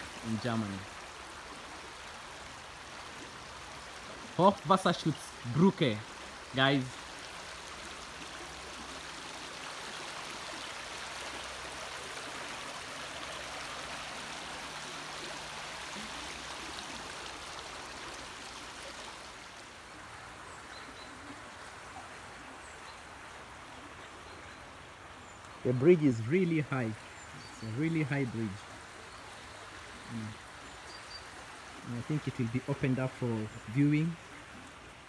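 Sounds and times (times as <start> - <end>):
stream rushing: 0.0 - 35.0.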